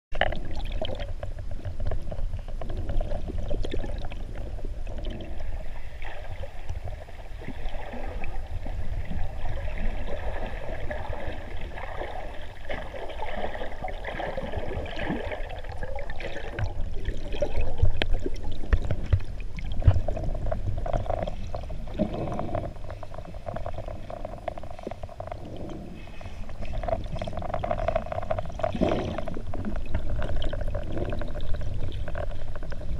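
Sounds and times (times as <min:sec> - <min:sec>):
muffled underwater water wash: 0:00.1 - 0:32.9.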